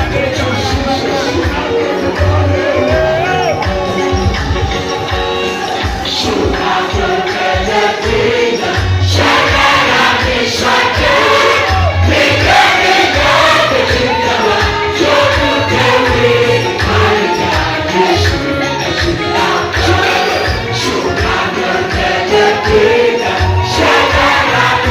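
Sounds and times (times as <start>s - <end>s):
group singing over a band: 0.0s - 24.9s.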